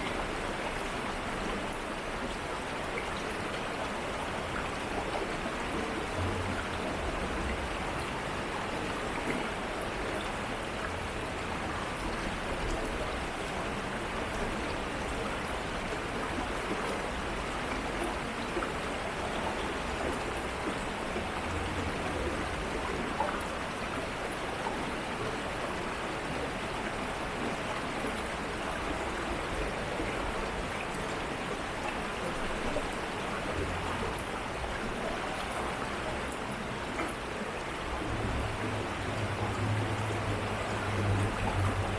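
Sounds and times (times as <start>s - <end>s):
stream babbling: 0.0s - 41.9s.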